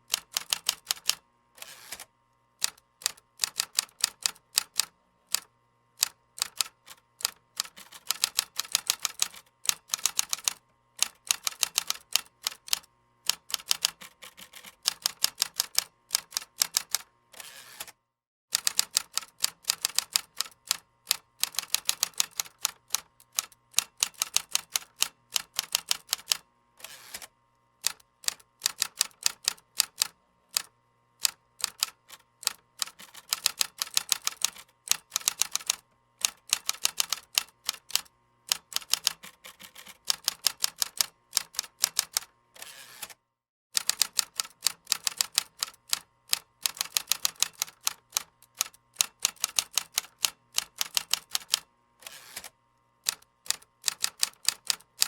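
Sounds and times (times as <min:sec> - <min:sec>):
computer keyboard typing: 0:00.1 - 0:01.2, 0:02.6 - 0:17.1, 0:18.5 - 0:26.4, 0:27.8 - 0:42.3, 0:43.8 - 0:51.7, 0:53.1 - 0:55.0.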